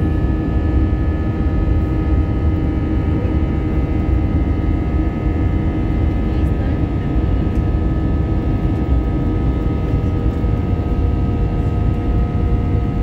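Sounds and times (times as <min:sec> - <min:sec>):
jet cabin engine drone: 0:00.0 - 0:13.0.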